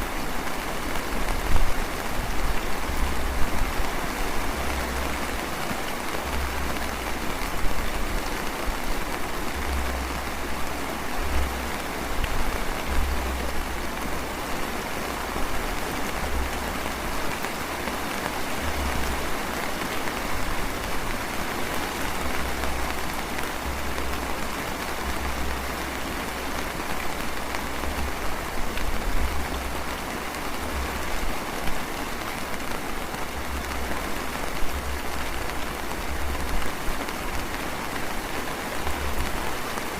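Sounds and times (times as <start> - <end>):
light rain drizzling: 0.0 - 39.9.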